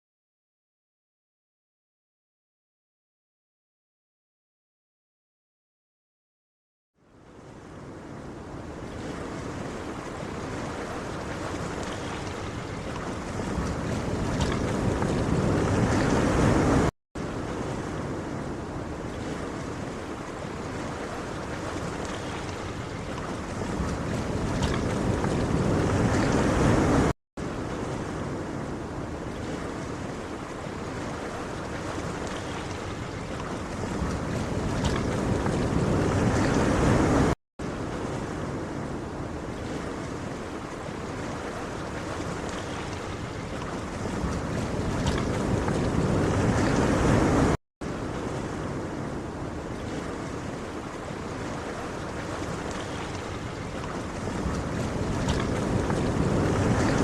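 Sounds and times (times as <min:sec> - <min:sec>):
ocean waves washing: 0:07.1 - 0:57.0.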